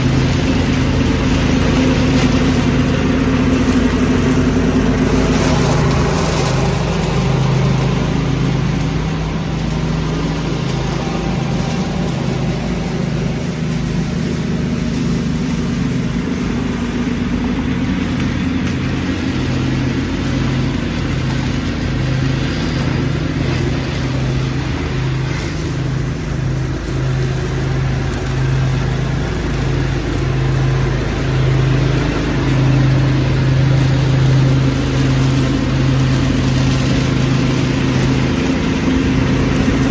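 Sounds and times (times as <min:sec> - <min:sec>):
lawn tractor engine running: 0:00.0 - 0:39.9
leaf vacuum blower rushing: 0:00.0 - 0:39.9.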